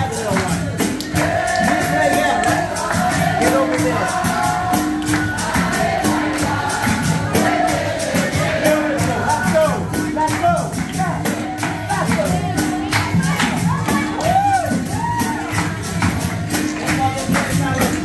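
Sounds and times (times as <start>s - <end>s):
group of voices singing: 0.0s - 18.0s
pandeiro: 0.0s - 18.0s.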